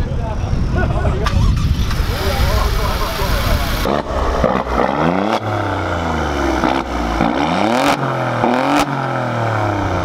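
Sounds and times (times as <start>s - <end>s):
car engine revving: 1.2s - 10.0s
exhaust cracks: 1.2s - 10.0s.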